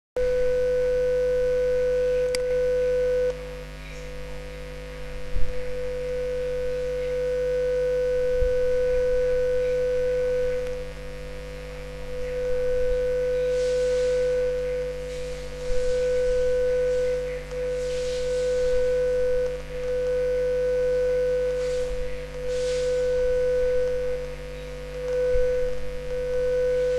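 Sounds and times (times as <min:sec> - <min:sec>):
steady pure tone: 0:00.2 - 0:26.9.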